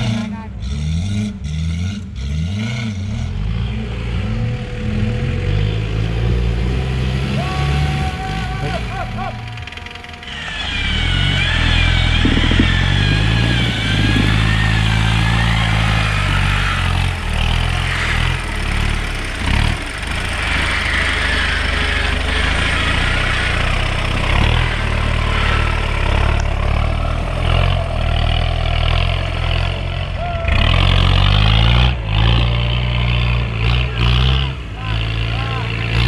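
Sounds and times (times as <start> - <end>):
vehicle engine running under load: 0.0 - 36.0.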